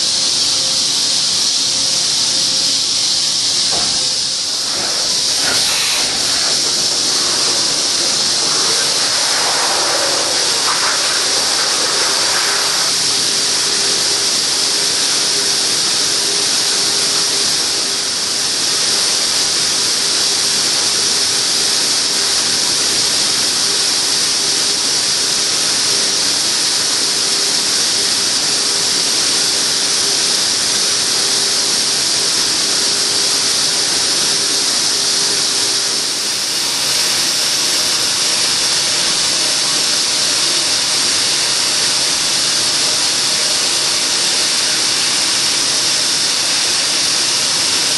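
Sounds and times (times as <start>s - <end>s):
milling machine spray hiss: 0.0s - 47.9s.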